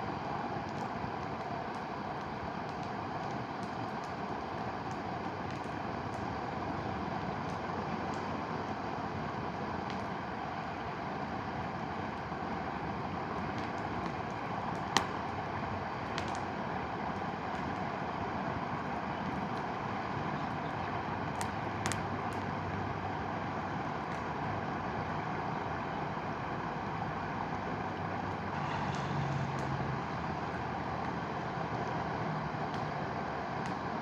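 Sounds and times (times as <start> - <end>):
bonfire crackles: 0.0 - 34.0.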